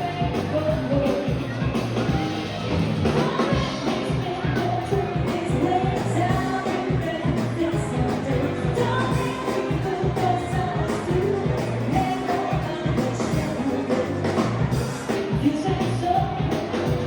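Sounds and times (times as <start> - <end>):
person singing: 0.0 - 1.8, 3.0 - 17.0
live band playing pop song: 0.0 - 17.0
steady drum beat: 0.0 - 17.0.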